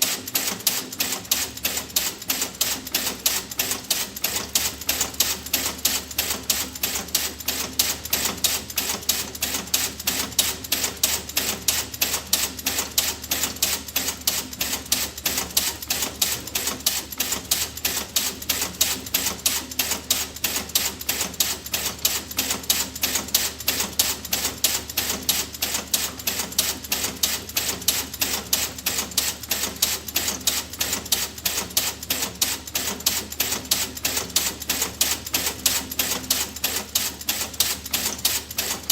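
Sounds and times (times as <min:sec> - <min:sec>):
rapid mechanical ticking: 0:00.0 - 0:38.9.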